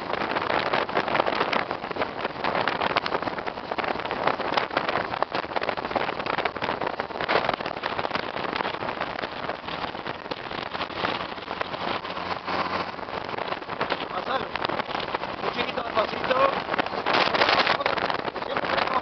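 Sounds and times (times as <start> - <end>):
vehicle road and tyre noise: 0.0 - 19.0
wind rushing over microphone: 0.0 - 19.0.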